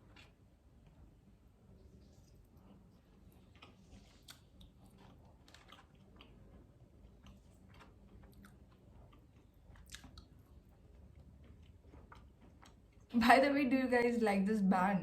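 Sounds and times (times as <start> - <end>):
chewing french fries: 0.0 - 13.2.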